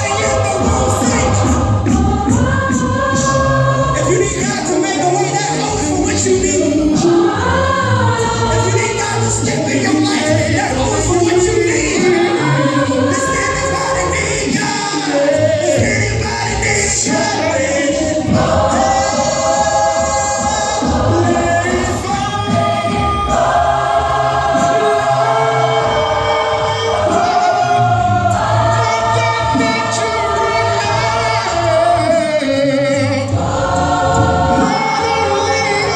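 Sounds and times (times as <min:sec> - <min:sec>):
gospel choir singing: 0:00.0 - 0:35.9.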